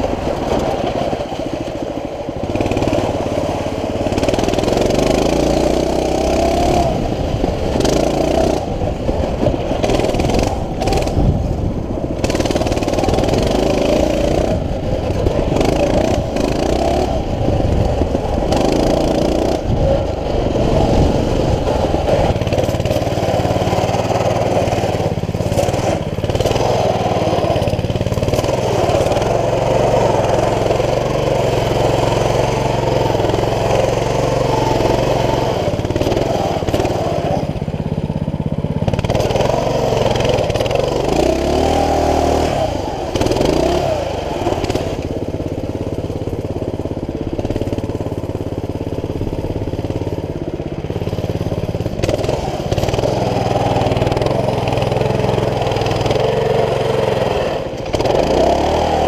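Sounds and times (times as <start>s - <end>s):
mini bike engine revving: 0.0s - 59.0s.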